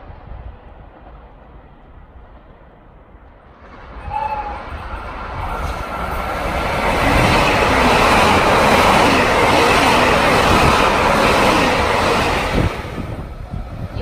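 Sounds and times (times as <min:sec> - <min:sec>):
electric train rushing past: 0:00.0 - 0:14.0.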